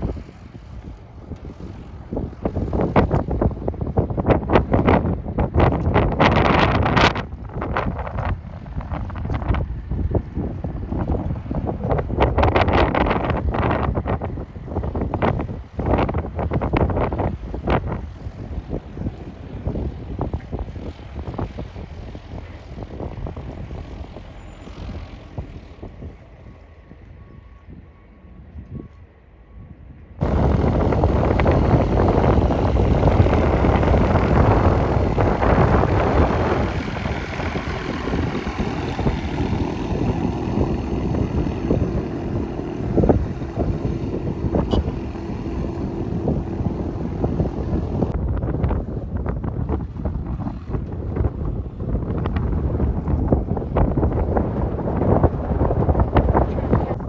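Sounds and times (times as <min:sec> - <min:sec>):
propeller airplane engine running: 0:00.0 - 0:26.8, 0:30.2 - 0:57.0
wind buffeting microphone: 0:00.0 - 0:57.0.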